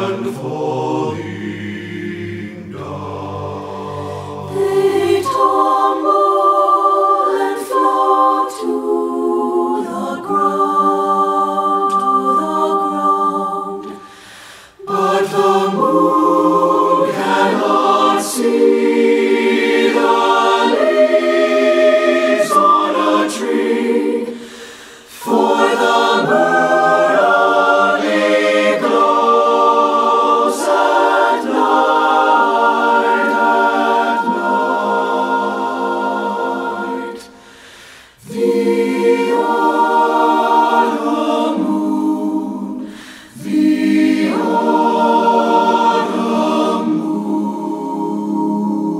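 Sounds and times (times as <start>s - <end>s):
choir singing a cappella: 0.0s - 48.9s.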